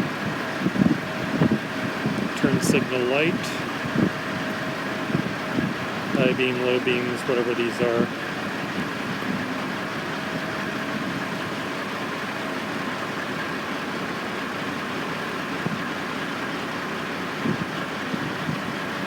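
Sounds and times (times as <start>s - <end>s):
machinery engine droning: 0.0s - 19.0s.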